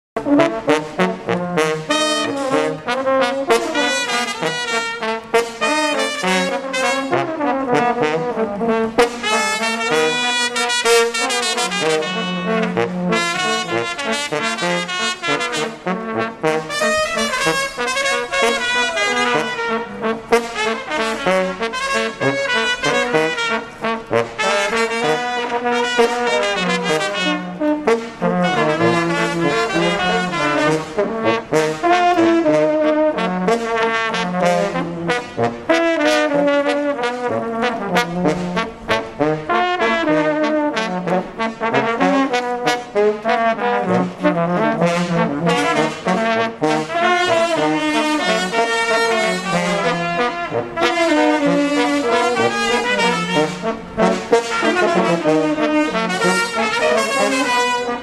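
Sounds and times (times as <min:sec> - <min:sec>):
brass band playing: 0:00.2 - 0:58.0.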